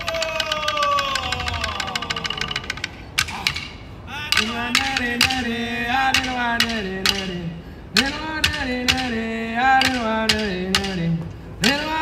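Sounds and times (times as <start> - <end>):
clapstick strikes: 0.0 - 7.4, 8.0 - 12.0
person chanting: 0.0 - 12.0.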